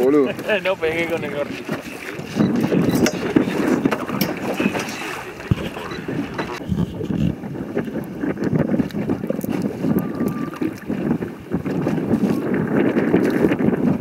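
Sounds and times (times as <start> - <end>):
water lapping against boat hull: 0.0 - 14.0
wind buffeting microphone: 0.0 - 14.0.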